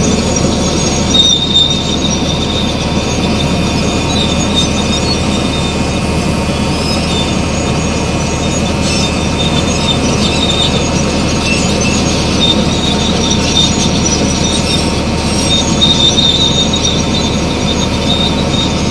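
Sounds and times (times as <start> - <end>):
bulldozer diesel engine running: 0.0 - 18.9
steel tracks squealing: 0.0 - 18.9.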